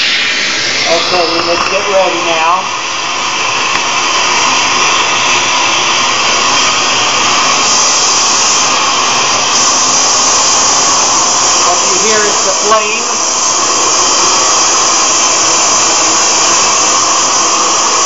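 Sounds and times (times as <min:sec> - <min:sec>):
torch flame hissing: 0:00.0 - 0:18.0.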